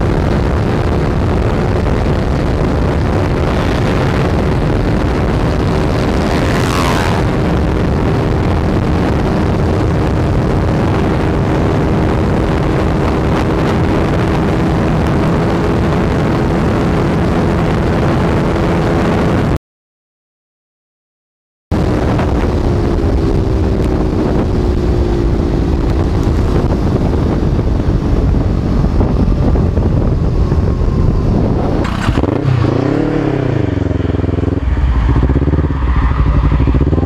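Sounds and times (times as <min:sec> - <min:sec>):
motorcycle engine revving: 0:00.0 - 0:19.2, 0:21.8 - 0:37.0
motorcycle engine at speed: 0:00.0 - 0:19.6, 0:21.8 - 0:37.0
wind rush: 0:00.0 - 0:19.6, 0:21.7 - 0:37.0.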